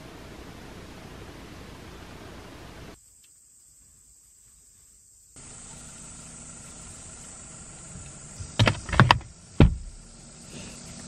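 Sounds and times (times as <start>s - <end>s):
low background hiss: 0.0s - 11.0s
high-pitched insect chorus: 1.9s - 11.0s.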